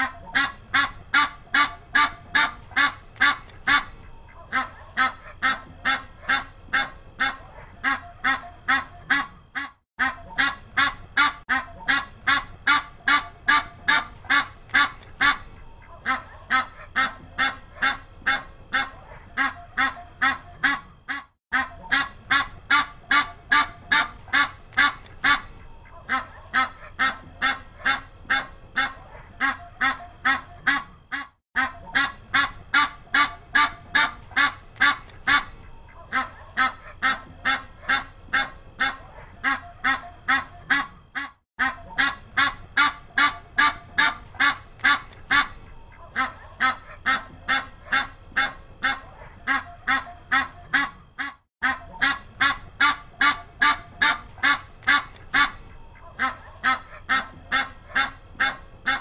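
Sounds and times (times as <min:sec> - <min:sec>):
duck quacking: 0:00.0 - 0:59.0.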